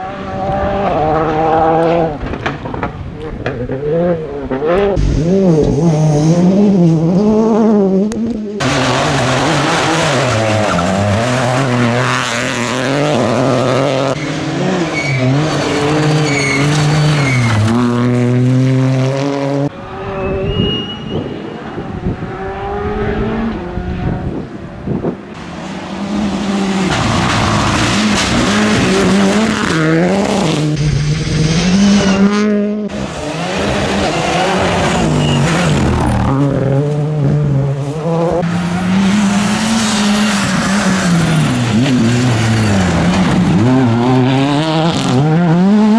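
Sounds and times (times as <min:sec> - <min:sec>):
rally car engines revving: 0:00.0 - 0:45.9
gravel under tyres: 0:08.2 - 0:24.5, 0:25.3 - 0:45.9.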